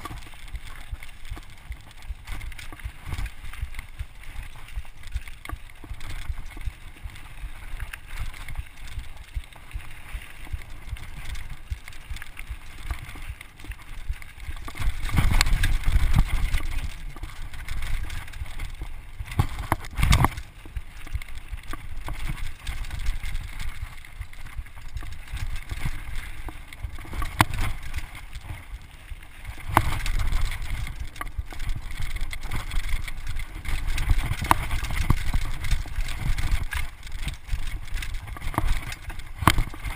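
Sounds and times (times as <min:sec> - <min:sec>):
bike knocking on rocks: 0:00.0 - 0:39.9
bike tyres crunching on gravel: 0:00.0 - 0:39.9.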